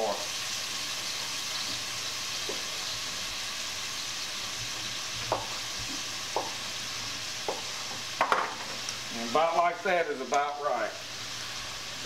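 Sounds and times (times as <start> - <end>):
mushrooms sizzling in butter: 0.0 - 12.0.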